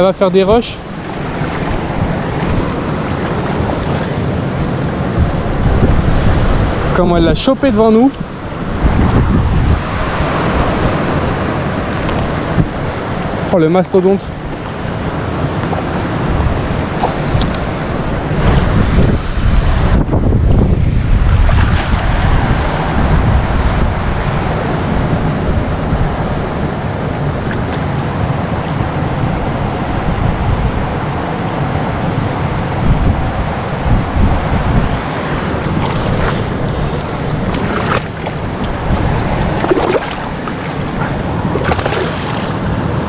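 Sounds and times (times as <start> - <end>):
flowing river water: 0.0 - 43.0
wind buffeting microphone: 0.0 - 43.0.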